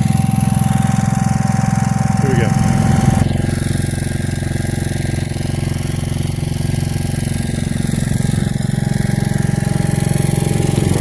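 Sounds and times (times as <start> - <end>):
snow blower engine running: 0.0 - 11.0.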